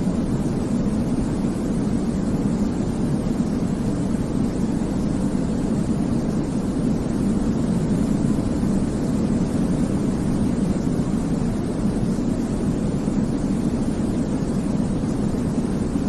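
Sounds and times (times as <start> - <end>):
deep rumbling white noise: 0.0 - 16.0.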